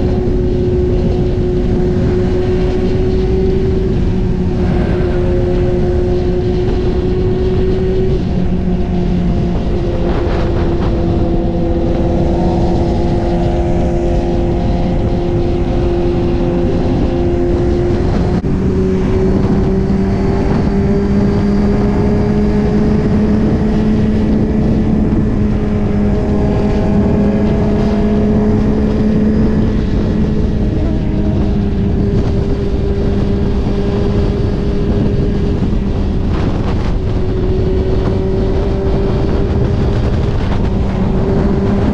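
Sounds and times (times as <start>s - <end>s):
motorcycle engine cruising: 0.0s - 41.9s
wind and road noise: 0.0s - 41.9s.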